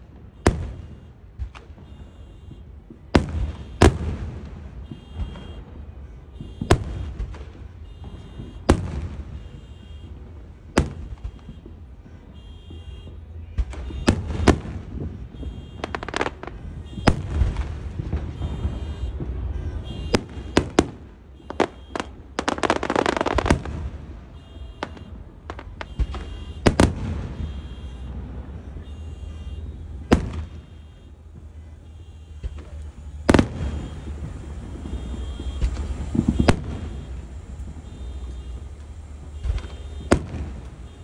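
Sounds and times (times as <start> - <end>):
fireworks bangs: 0.0 - 41.0
fireworks crackling: 0.0 - 41.0
car alarm beeping: 1.8 - 4.0, 4.8 - 5.7, 6.3 - 7.2, 7.8 - 10.2, 10.8 - 14.6, 15.3 - 41.0.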